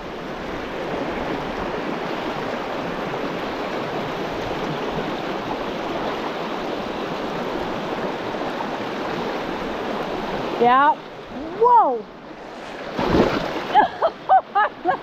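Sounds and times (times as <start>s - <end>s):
creek running over rocks: 0.0s - 14.3s.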